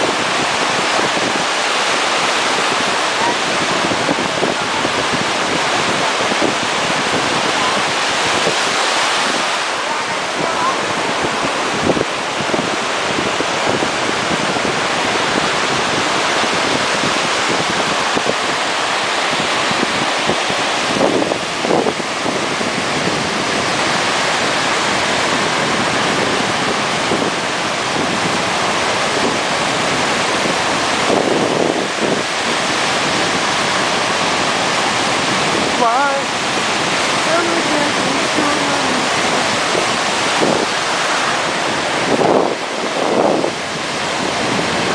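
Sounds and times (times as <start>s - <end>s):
water noise: 0.0s - 44.9s
wind buffeting microphone: 0.0s - 44.9s.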